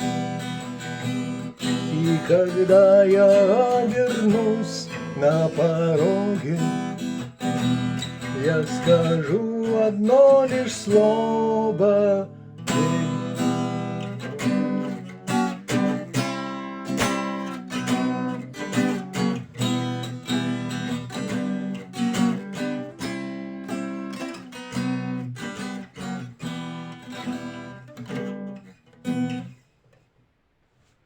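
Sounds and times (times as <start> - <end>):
acoustic guitar strumming: 0.0 - 29.7.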